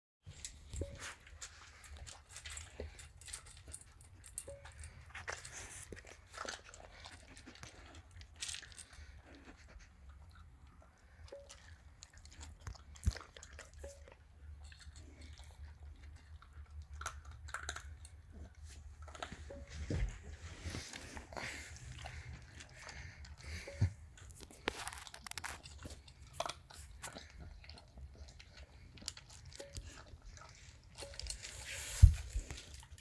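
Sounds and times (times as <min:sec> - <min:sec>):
pet crunching dry kibble: 0:00.3 - 0:33.0.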